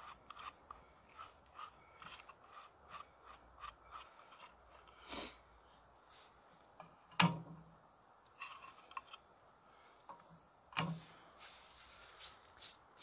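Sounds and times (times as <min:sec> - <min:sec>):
soft rustle: 0:00.3 - 0:06.8, 0:08.4 - 0:13.0.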